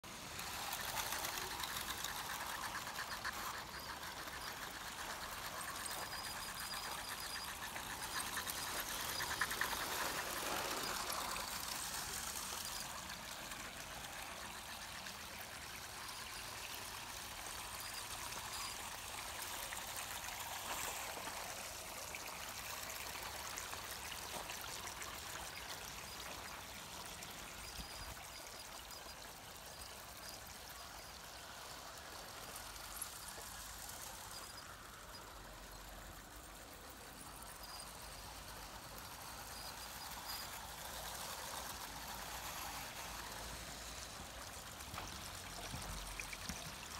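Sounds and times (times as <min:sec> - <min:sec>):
water trickling down fountain: 0:00.1 - 0:46.9.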